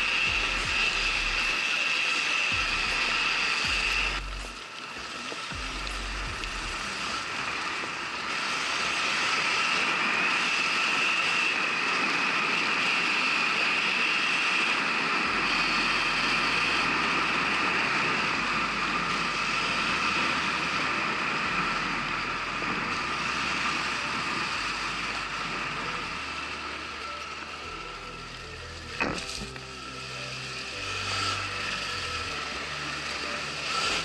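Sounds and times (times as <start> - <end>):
electric motorcycle motor whine: 0.0 - 34.0
ride noise: 0.0 - 34.0.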